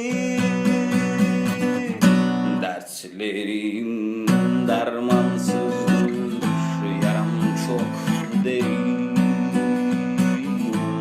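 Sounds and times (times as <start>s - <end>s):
acoustic guitar strumming: 0.0s - 11.0s
person singing: 0.0s - 11.0s.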